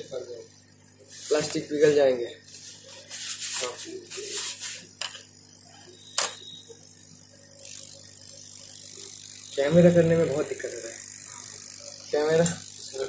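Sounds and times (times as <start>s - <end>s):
electrical hum with high whine: 0.0s - 13.0s.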